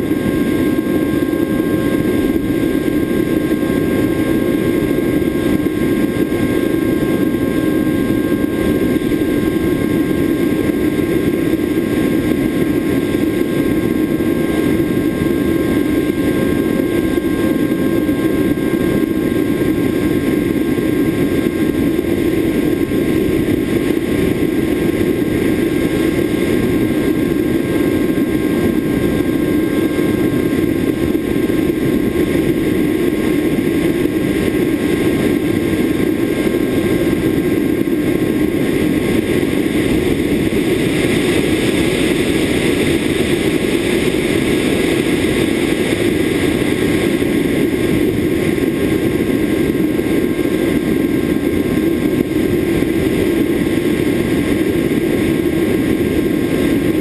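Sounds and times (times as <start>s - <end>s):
electric motor drone: 0.0s - 57.0s
wind rush: 0.0s - 57.0s.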